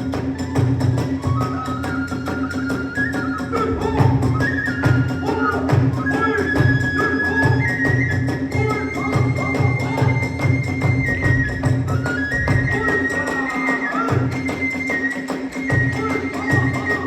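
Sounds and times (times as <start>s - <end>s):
bamboo flute: 0.0s - 17.0s
quick drumbeats: 0.0s - 17.0s.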